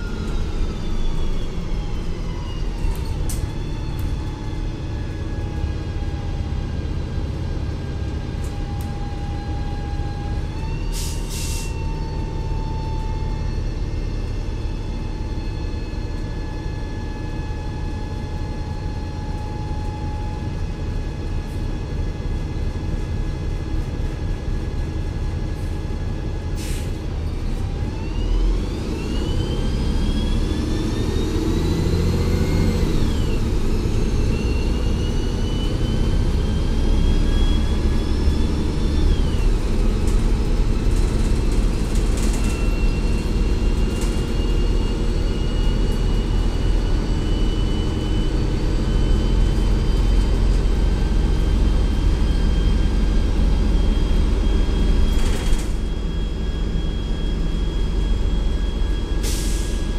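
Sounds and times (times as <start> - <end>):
bus engine whine: 0.0 - 59.9.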